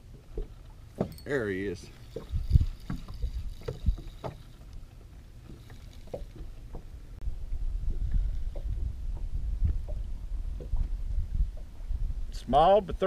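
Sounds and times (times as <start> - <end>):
wind rumbling on microphone: 1.6 - 4.9, 5.5 - 13.0.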